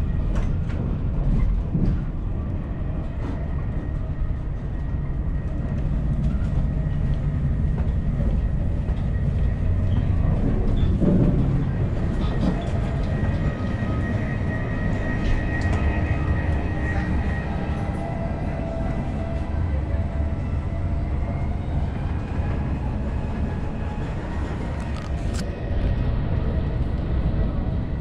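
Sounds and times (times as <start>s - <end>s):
train rumbling in motion: 0.0s - 28.0s.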